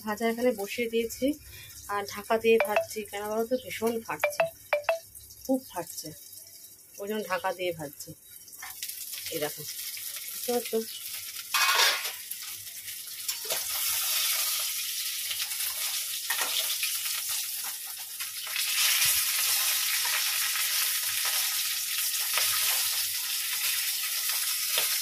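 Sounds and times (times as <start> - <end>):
fish frying in hot oil: 0.1 - 25.0.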